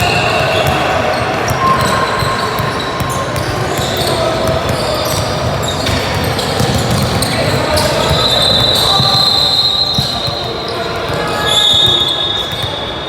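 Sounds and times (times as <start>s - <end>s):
basketball bouncing: 0.0s - 11.2s
shoes squeaking: 0.0s - 13.0s.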